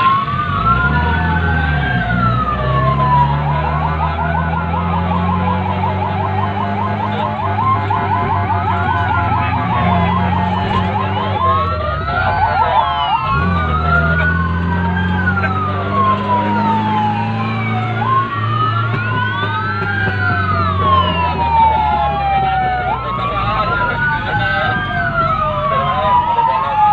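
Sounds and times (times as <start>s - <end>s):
emergency sirens wailing: 0.0s - 26.9s
siren yelping: 0.0s - 26.9s
vehicle engine drone: 0.0s - 26.9s.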